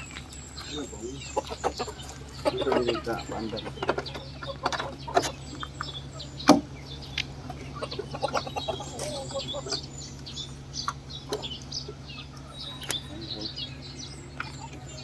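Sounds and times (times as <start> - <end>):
chickens clucking: 0.0 - 15.0
steady low hum: 0.0 - 15.0.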